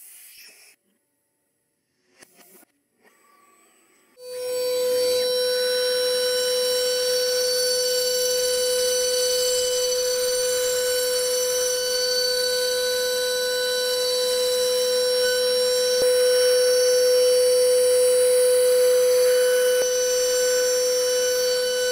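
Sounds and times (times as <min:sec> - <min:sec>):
machinery buzzing whine: 0:04.2 - 0:21.9.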